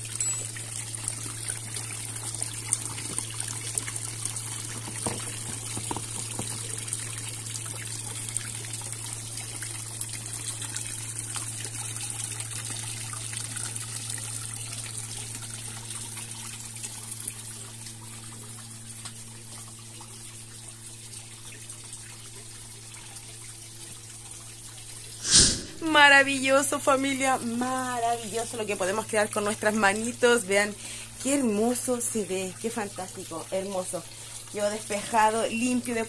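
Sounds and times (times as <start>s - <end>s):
fountain water trickling: 0.0s - 25.2s, 25.9s - 36.0s.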